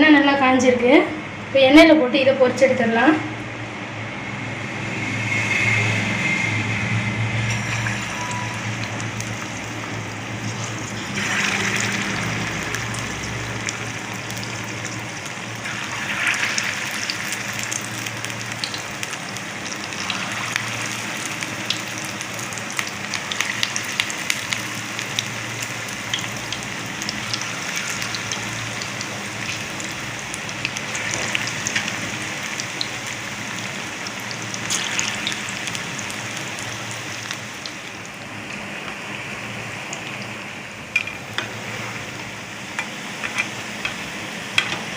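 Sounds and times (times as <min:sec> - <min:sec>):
fritters sizzling in hot oil: 0:04.6 - 0:44.9.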